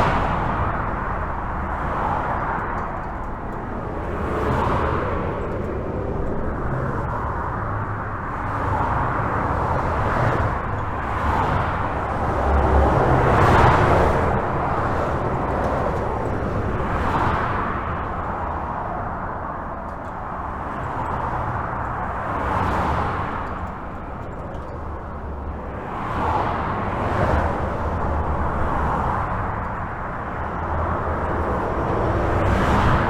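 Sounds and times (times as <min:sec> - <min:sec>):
highway traffic rushing: 0:00.0 - 0:33.0
vehicles passing: 0:00.0 - 0:33.0.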